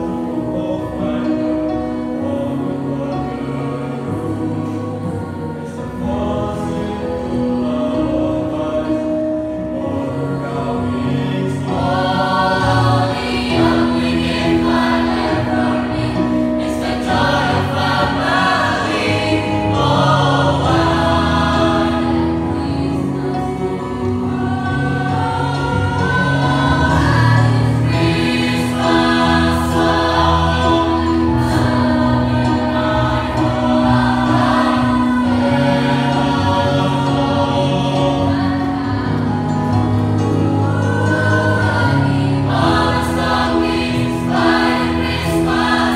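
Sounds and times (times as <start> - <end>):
children's choir singing in harmony: 0.0 - 45.9.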